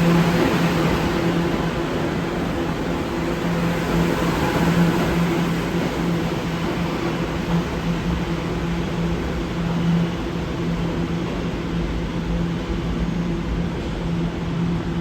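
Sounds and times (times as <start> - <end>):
subway train running: 0.0 - 15.0.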